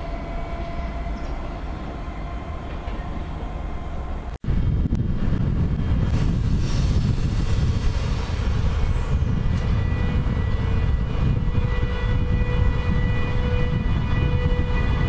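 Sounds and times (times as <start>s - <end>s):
locomotive low rumble: 0.0s - 15.0s.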